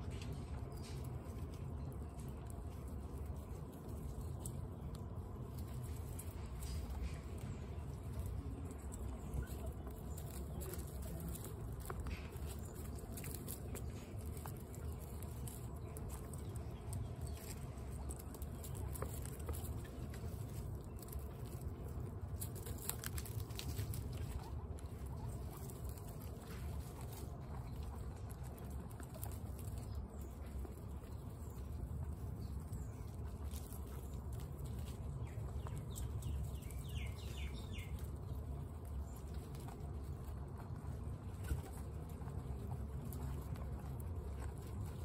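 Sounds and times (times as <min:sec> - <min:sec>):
guinea pigs crunching pellets: 0:00.0 - 0:45.0
low background rumble: 0:00.0 - 0:45.0.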